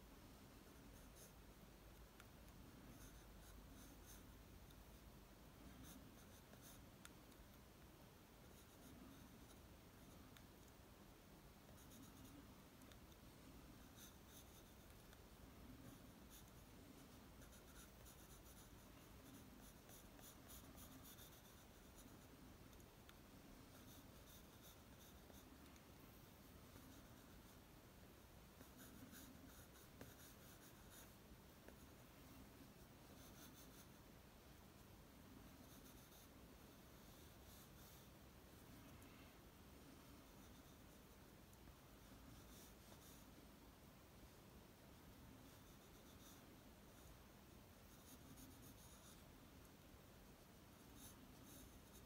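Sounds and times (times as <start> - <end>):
pencil scratching on paper: 0.6 - 1.4, 2.0 - 7.7, 8.3 - 10.8, 11.6 - 34.1, 34.8 - 39.0, 40.0 - 43.4, 45.2 - 49.3, 50.4 - 52.0.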